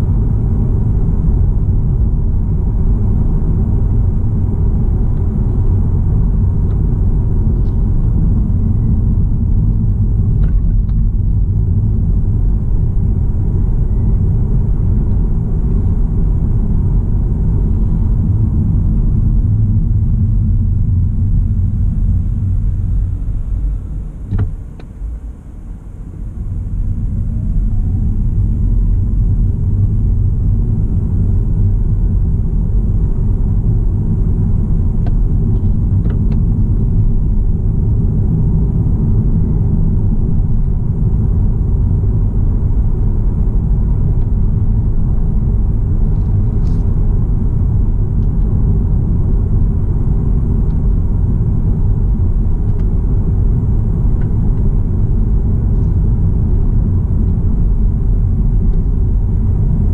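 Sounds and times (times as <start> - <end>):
road and tyre rumble: 0.0 - 59.9.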